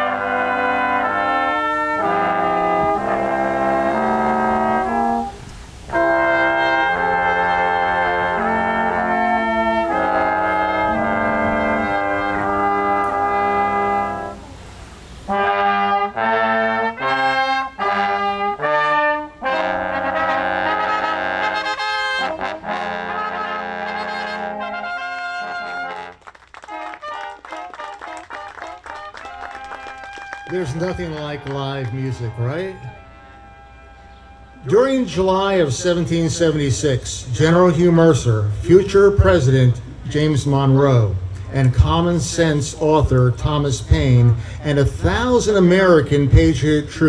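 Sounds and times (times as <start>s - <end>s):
brass quintet playing chords: 0.0s - 47.0s.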